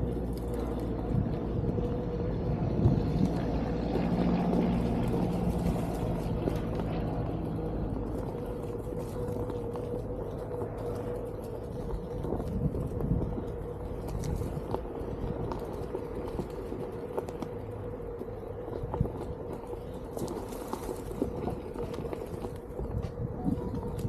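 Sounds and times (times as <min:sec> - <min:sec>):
tyre rolling on ground: 0:00.0 - 0:24.0.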